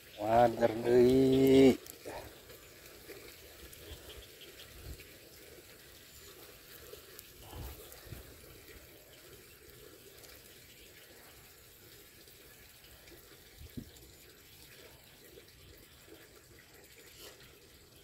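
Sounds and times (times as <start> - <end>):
faint water trickling: 0.0 - 18.0.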